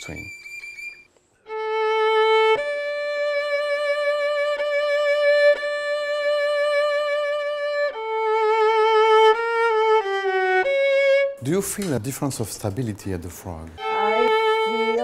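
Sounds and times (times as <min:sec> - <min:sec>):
violin bowed with vibrato: 0:00.0 - 0:11.4, 0:13.8 - 0:15.0.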